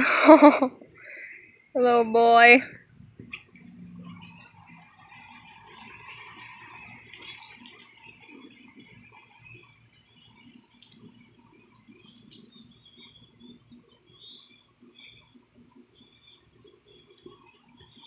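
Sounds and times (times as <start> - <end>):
faint bird chirps: 1.0 - 2.6, 3.2 - 18.0.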